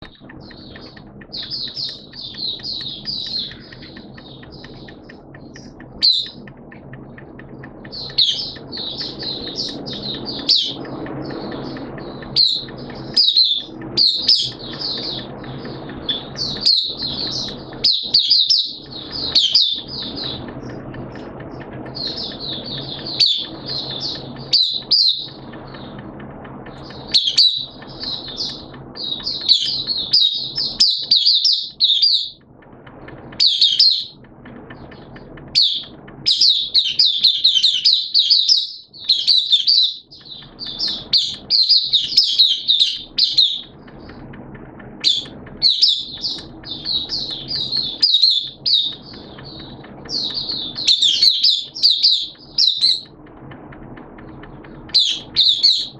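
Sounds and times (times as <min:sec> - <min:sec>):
songbird twittering: 0:00.0 - 0:26.0, 0:26.7 - 0:32.4, 0:33.4 - 0:34.2, 0:34.8 - 0:44.2, 0:45.0 - 0:53.1, 0:54.9 - 0:55.9.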